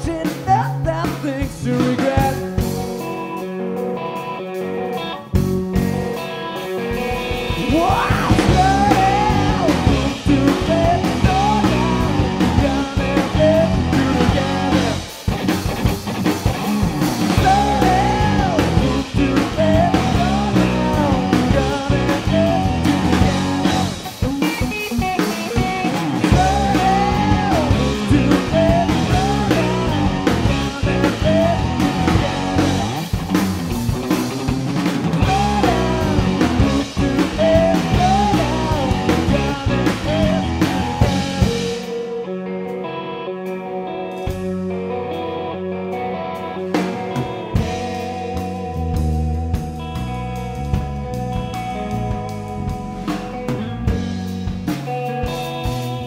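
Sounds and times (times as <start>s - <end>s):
blues rock band playing: 0.0s - 56.0s
electric guitar lead: 0.0s - 56.0s.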